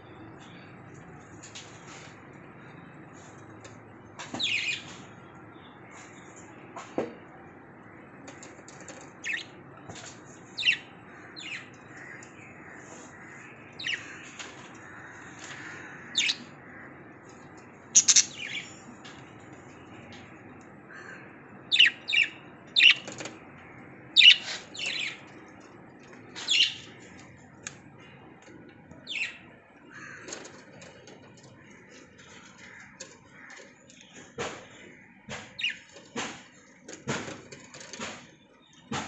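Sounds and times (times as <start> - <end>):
birds chirping and squawking: 0.0 - 39.0
faint background hum: 0.0 - 39.0.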